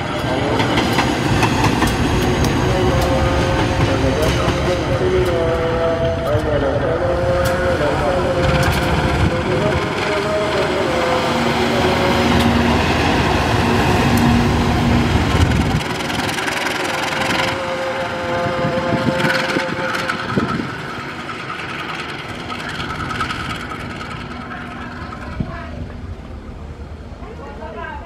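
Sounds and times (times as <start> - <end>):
locomotive diesel engine running: 0.2 - 27.1.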